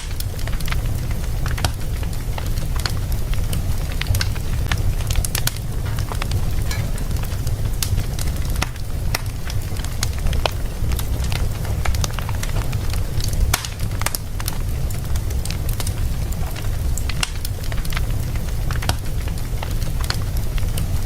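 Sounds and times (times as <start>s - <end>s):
low rumble of flame: 0.0s - 21.0s
wood fire crackling and popping: 0.0s - 21.0s.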